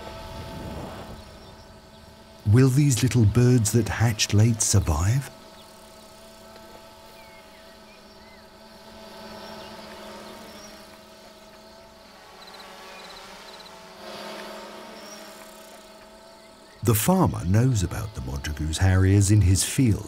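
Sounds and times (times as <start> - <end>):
drone rotors hovering: 0.0 - 20.0.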